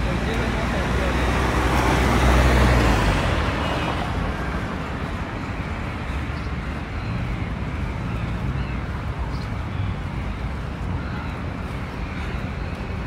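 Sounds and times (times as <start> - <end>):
steady traffic hum: 0.0 - 13.0
vehicle rumble: 0.0 - 13.0.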